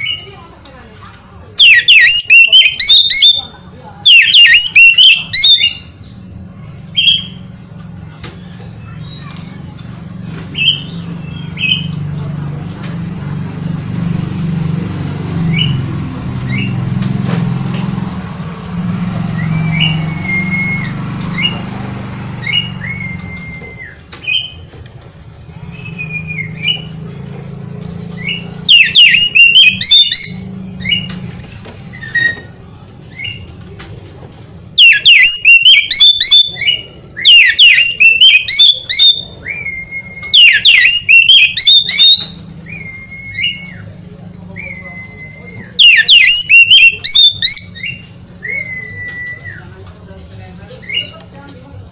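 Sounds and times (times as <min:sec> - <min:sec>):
bird singing: 0:01.5 - 0:14.4, 0:19.2 - 0:31.2, 0:34.8 - 0:51.5.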